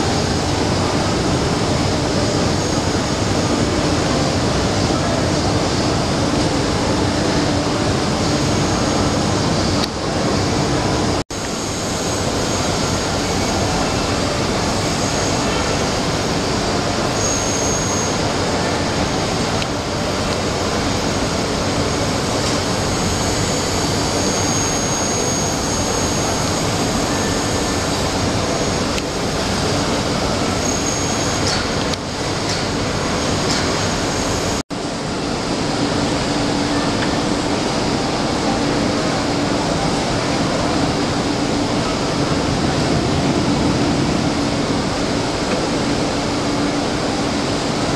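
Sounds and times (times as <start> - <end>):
high whine: 0.0 - 47.9
machine running loudly: 0.0 - 47.9.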